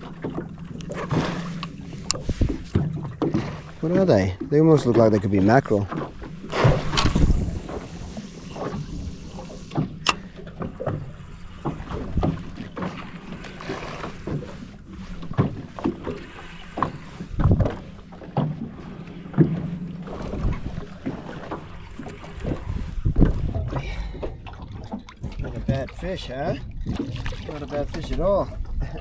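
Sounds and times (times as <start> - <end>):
water sloshing: 0.0 - 29.0.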